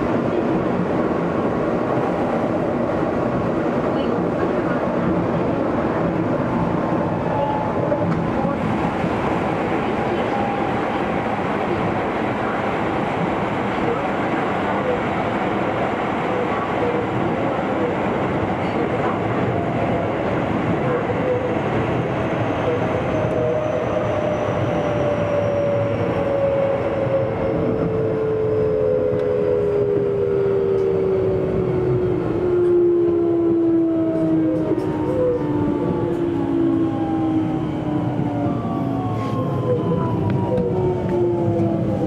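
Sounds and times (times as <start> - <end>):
train inverter whining: 0.0 - 42.0
wheel and rail rumble: 0.0 - 42.0.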